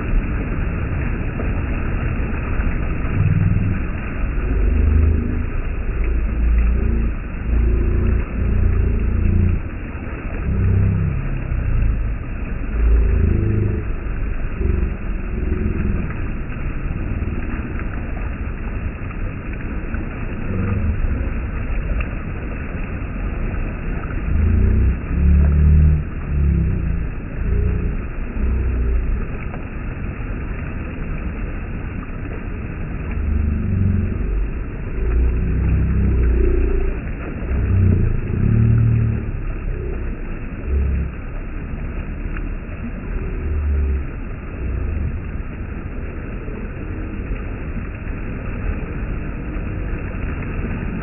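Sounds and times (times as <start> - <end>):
water rushing over a weir: 0.0 - 51.0.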